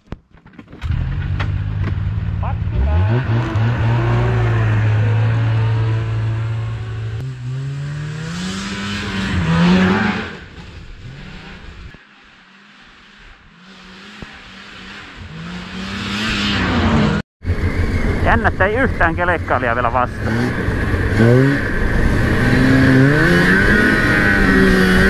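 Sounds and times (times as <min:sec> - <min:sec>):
snowmobile engine revving: 0:02.4 - 0:25.0.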